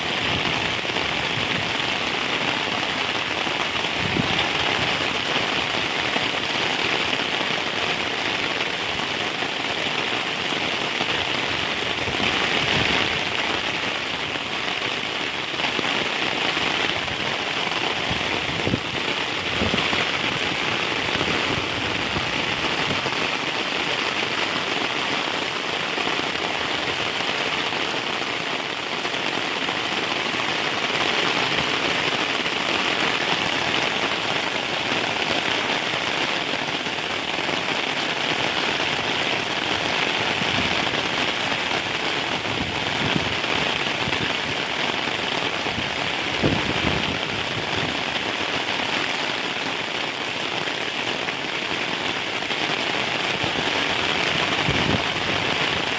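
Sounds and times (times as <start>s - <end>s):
heavy rain on surfaces: 0.0s - 55.9s.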